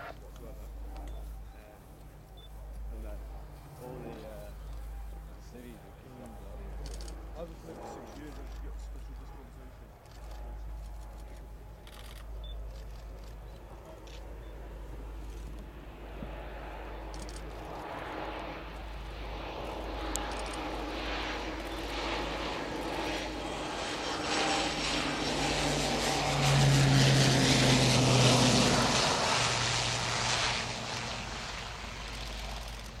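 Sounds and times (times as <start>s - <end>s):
turboprop plane passing: 0.0s - 33.0s.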